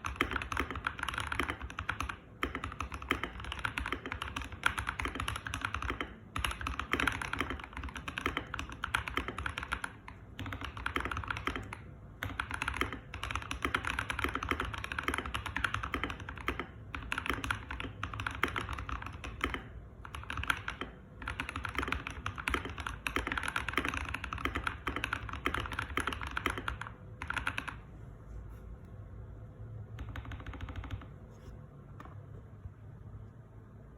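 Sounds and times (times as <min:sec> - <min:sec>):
mechanical keyboard typing: 0:00.0 - 0:27.9, 0:29.9 - 0:31.2.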